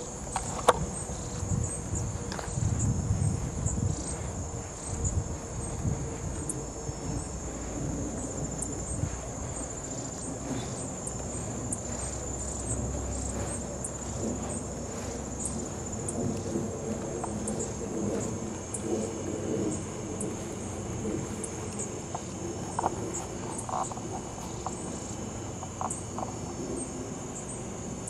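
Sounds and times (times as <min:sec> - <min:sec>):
insects chirring: 0:00.0 - 0:28.0
low rumble: 0:00.0 - 0:28.0.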